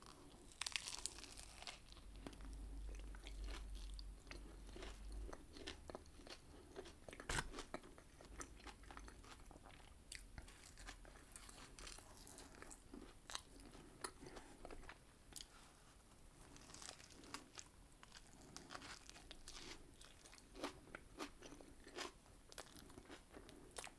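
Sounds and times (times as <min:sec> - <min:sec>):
chewing crispy food: 0:00.0 - 0:23.9.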